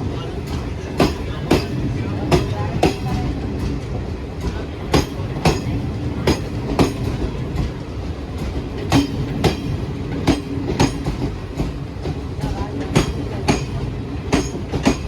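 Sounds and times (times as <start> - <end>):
train running rumble: 0.0 - 15.0
wheels clacking over rail joints: 0.2 - 15.0.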